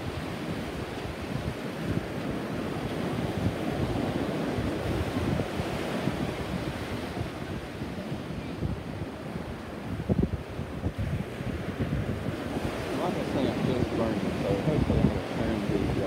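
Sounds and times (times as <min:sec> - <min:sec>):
ocean surf washing: 0:00.0 - 0:16.0
wind buffeting microphone: 0:00.0 - 0:16.0.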